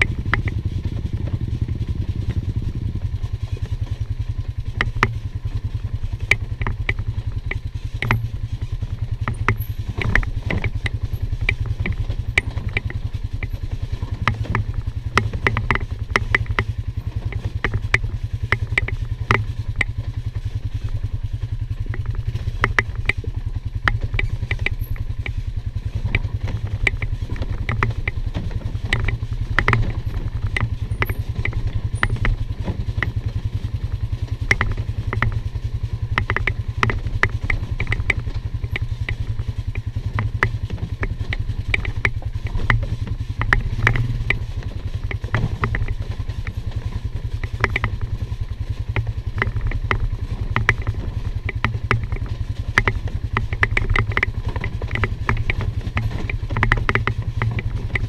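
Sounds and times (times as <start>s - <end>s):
atv engine running under load: 0.0s - 58.0s
rocks clattering under tyres: 0.0s - 58.0s.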